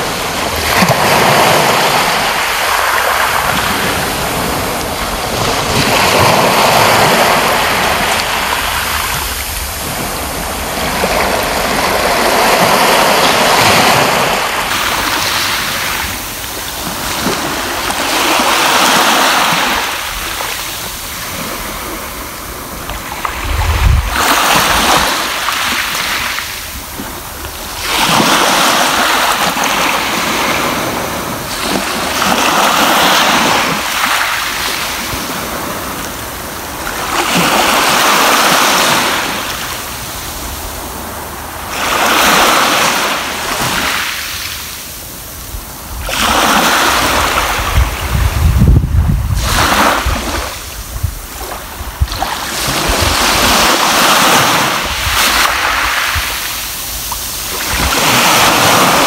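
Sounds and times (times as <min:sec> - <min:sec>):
small sea waves breaking on beach: 0:00.0 - 0:59.0.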